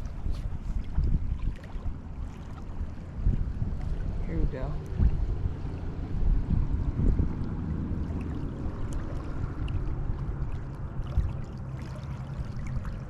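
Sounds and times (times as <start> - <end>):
faint water sounds: 0.0 - 13.0
wind buffeting microphone: 0.0 - 13.0.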